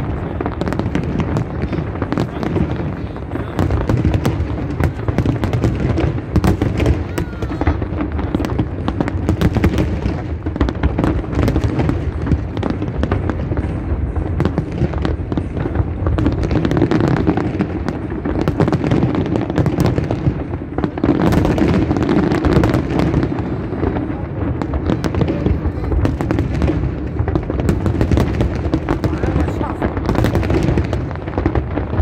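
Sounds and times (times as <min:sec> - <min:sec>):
firework bangs and crackles: 0:00.0 - 0:32.0.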